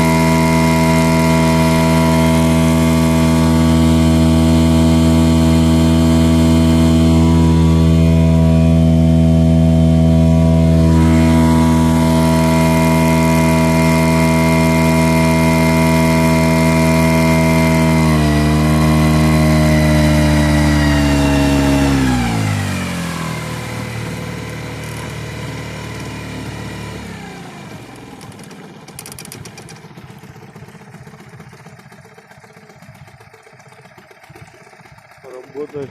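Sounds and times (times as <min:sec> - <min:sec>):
outboard motor running: 0:00.0 - 0:35.9.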